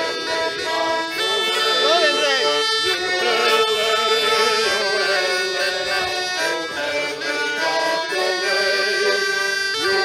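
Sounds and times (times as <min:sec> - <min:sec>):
button accordion folk tune: 0:00.0 - 0:10.0
steady held drone: 0:00.0 - 0:10.0.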